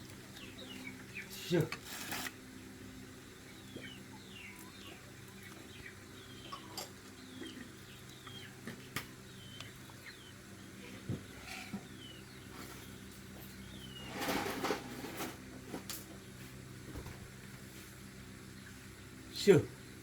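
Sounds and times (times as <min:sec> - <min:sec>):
small birds chirping: 0:00.0 - 0:14.5, 0:16.1 - 0:20.0.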